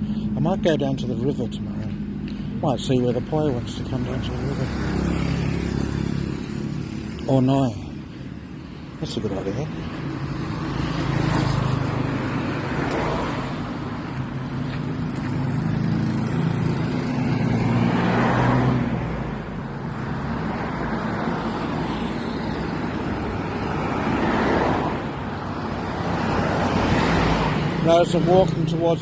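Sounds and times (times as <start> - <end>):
cars passing close by: 0.0 - 29.0.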